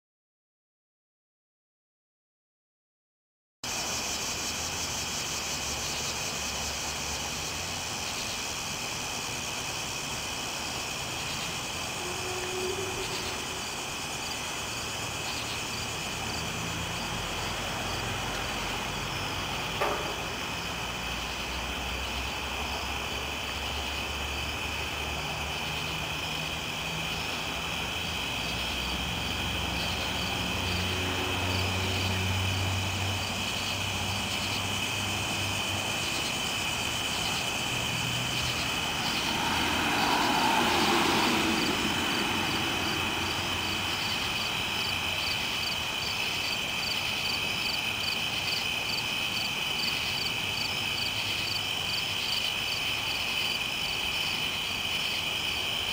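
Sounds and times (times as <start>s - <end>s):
crickets trilling: 3.6s - 55.9s
distant engine hum: 3.7s - 52.2s
pulsed insect chirp: 3.7s - 55.9s.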